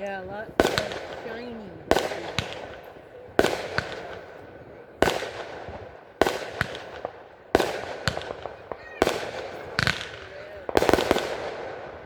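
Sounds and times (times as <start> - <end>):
fireworks bangs: 0.0 - 12.0
rumble of fireworks: 0.0 - 12.0.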